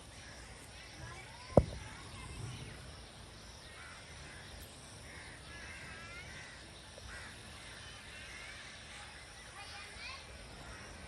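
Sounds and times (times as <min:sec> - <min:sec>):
faint bird calls: 0:00.0 - 0:11.0
outdoor background noise: 0:00.0 - 0:11.0.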